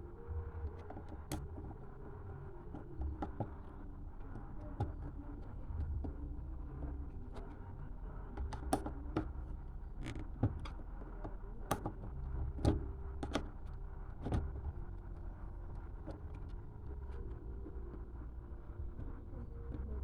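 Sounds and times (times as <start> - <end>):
low steady background noise: 0.0 - 20.0.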